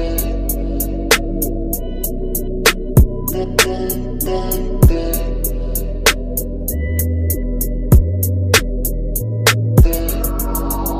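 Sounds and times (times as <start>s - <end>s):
electronic hip-hop beat: 0.0s - 10.9s.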